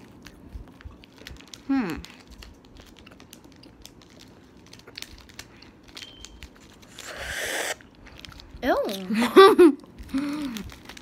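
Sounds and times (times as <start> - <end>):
mouth chewing candy: 0.0 - 9.0, 9.7 - 11.0.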